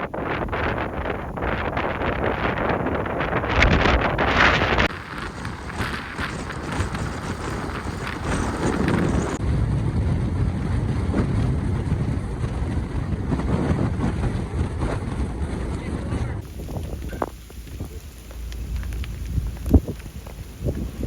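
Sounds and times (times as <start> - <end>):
low rumble: 0.0 - 21.0
wind buffeting microphone: 0.0 - 21.0.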